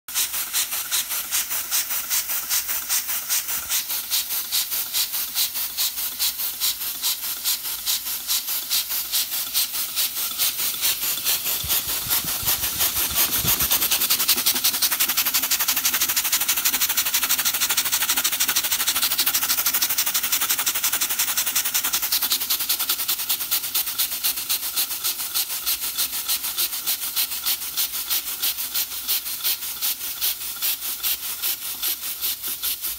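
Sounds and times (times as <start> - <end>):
steam engine puffing: 0.1 - 32.9.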